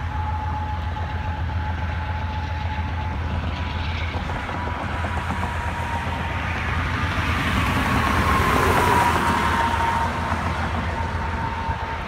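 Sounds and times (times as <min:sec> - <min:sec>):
cars passing on road: 0:00.0 - 0:12.0
distant freight train rumbling: 0:00.0 - 0:12.0.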